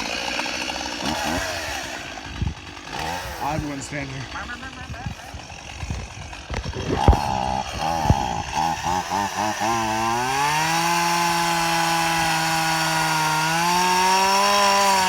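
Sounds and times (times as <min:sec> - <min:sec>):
chainsaw engine sputtering and revving: 0:00.0 - 0:15.0.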